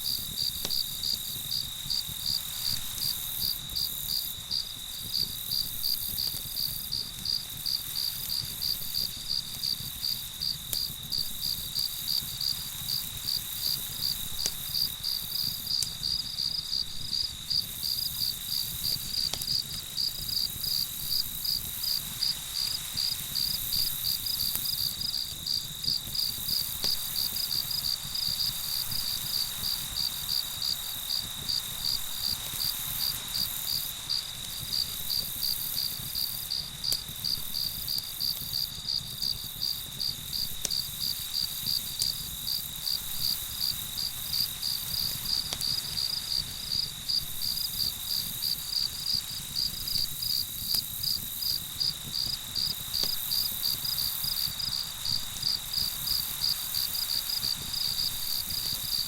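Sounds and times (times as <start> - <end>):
crickets chirping: 0.0 - 59.0
high insect trill: 0.0 - 59.0.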